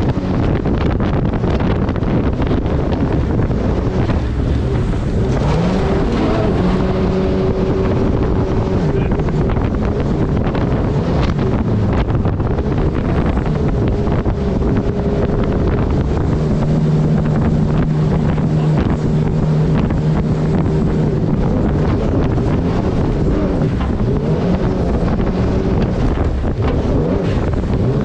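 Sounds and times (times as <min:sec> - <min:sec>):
jet boat engine running: 0:00.0 - 0:28.0
wind buffeting microphone: 0:00.0 - 0:28.0.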